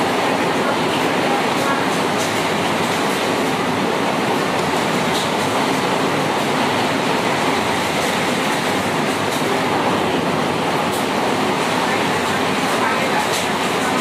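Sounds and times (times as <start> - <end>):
heavy rain in strong wind: 0.0 - 14.0.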